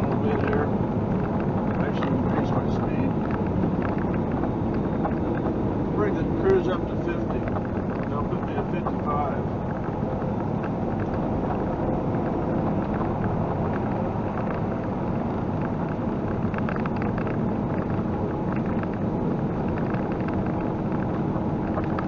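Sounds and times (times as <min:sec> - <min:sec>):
diesel engine drone: 0:00.0 - 0:22.0
road and wind noise: 0:00.0 - 0:22.0.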